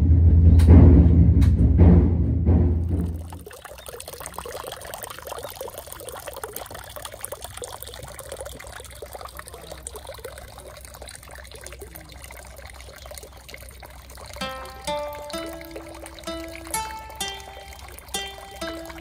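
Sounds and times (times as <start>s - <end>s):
water trickling into stone basin: 2.9s - 19.0s.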